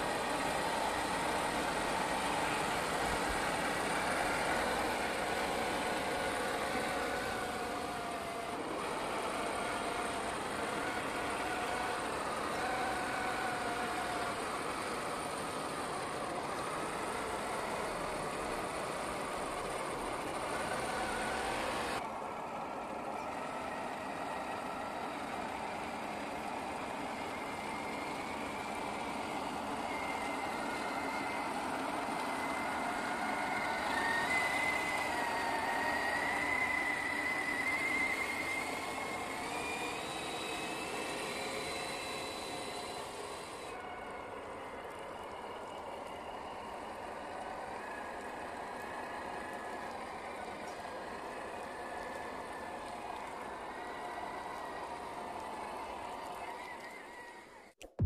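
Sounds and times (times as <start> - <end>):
toy car electric motor whining: 0.0 - 57.8
tyres churning through mud: 0.0 - 58.0.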